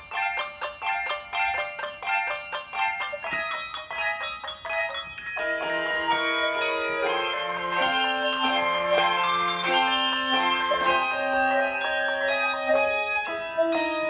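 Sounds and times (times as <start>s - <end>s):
handbell choir playing: 0.0s - 14.0s.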